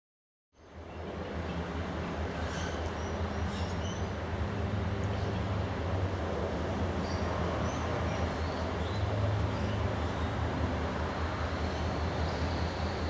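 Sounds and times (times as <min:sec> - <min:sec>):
distant diesel locomotive engine: 0:00.6 - 0:13.0.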